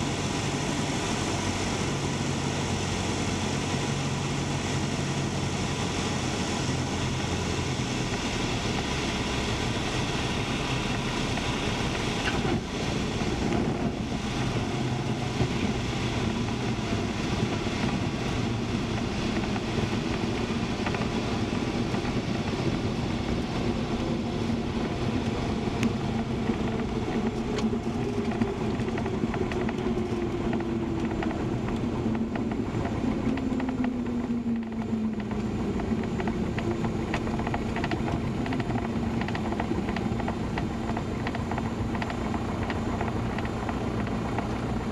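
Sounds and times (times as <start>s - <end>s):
air and runway noise: 0.0s - 44.9s
airplane engine idling: 0.0s - 44.9s.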